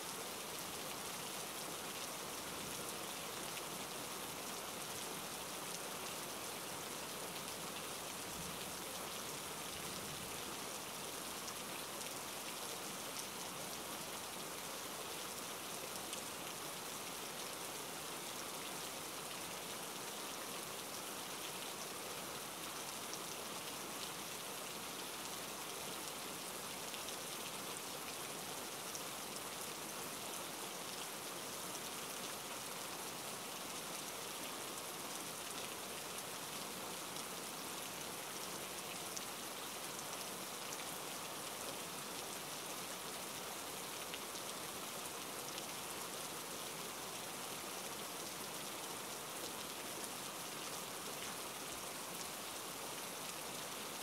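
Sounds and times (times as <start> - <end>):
patter of raindrops: 0.0 - 54.0
rain hiss: 0.0 - 54.0.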